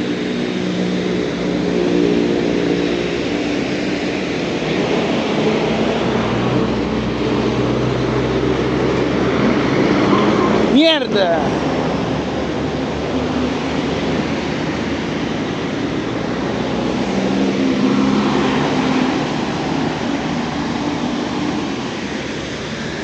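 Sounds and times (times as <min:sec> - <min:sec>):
heavy engine hum: 0:00.0 - 0:23.0
road traffic noise: 0:00.0 - 0:23.0.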